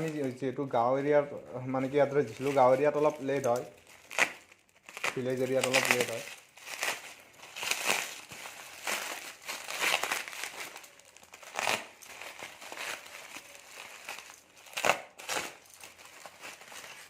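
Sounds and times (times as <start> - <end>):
parcel packaging crinkling: 1.6 - 17.0.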